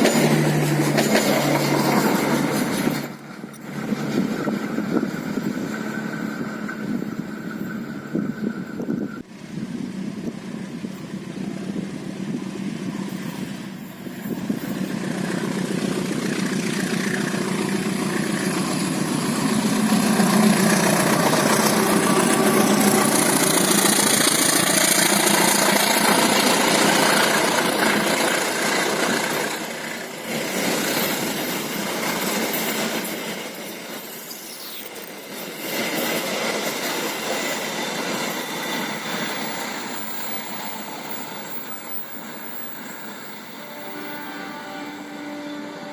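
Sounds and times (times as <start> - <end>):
train passing: 0.0 - 45.9.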